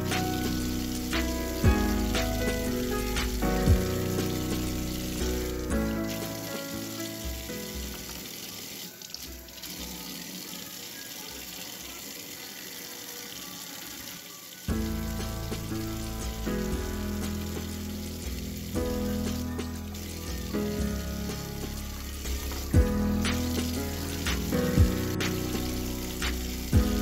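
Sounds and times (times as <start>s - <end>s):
background music: 0.0s - 27.0s
hands rinsing fruit splashing: 0.0s - 27.0s
tap water running into sink: 0.0s - 27.0s.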